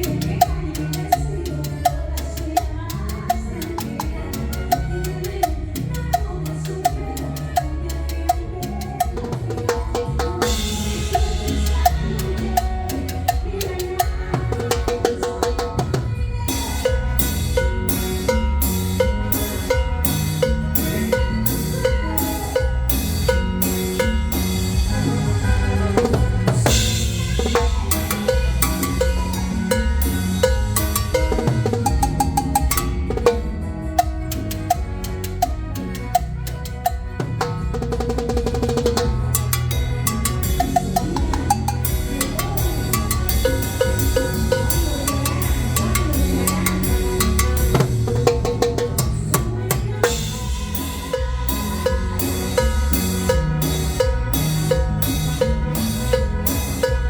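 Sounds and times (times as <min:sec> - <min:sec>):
live band playing: 0:00.0 - 0:57.0.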